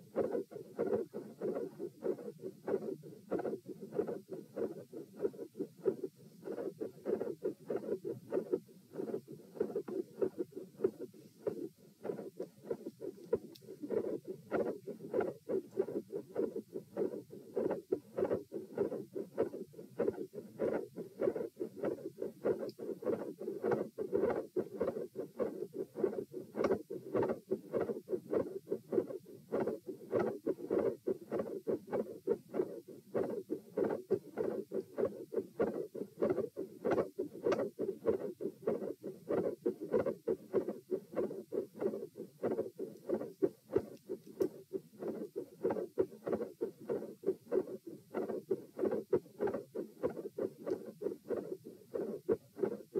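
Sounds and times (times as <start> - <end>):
heartbeat through stethoscope: 0.0 - 52.9.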